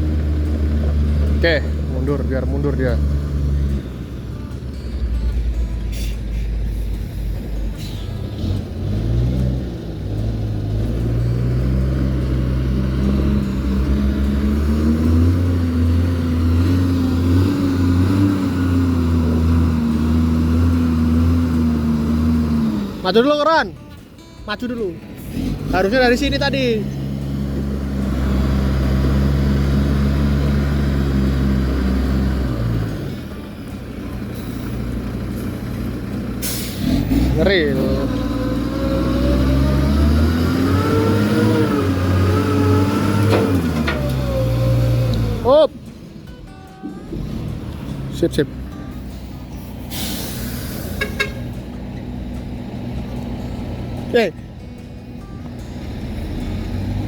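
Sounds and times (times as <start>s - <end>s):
vehicle engine running and revving: 0.0s - 57.0s.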